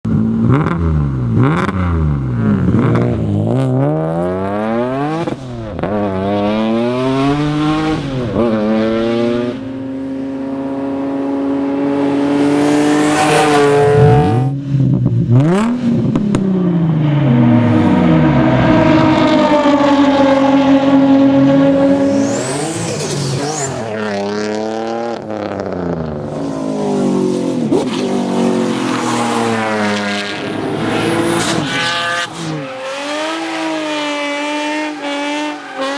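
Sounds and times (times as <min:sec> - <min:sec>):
car engine revving and accelerating: 0:00.1 - 0:35.9.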